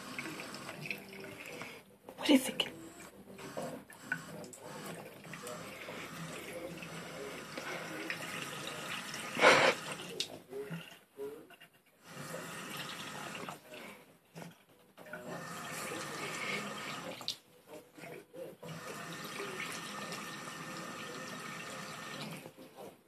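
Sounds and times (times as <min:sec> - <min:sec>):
faucet running into sink: 0:00.0 - 0:01.8, 0:02.4 - 0:11.0, 0:12.0 - 0:13.7, 0:15.1 - 0:17.4, 0:18.0 - 0:22.6.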